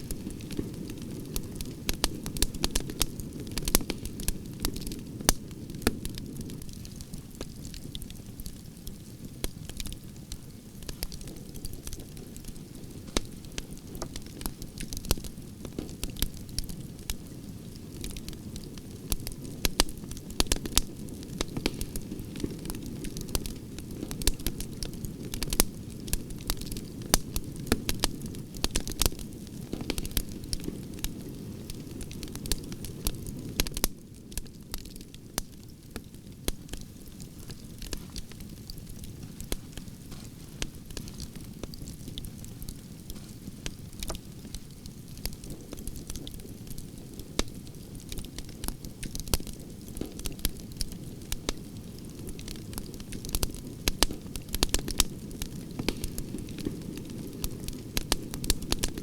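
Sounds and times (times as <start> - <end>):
campfire crackling and popping: 0.0 - 59.0
low rumble of flame: 0.0 - 59.0.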